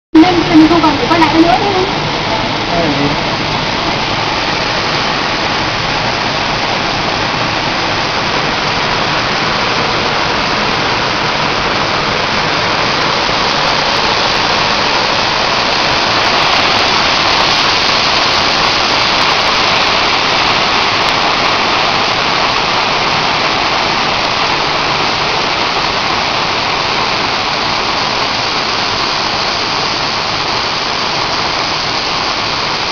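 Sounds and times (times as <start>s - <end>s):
waterfall rushing: 0.2s - 32.9s.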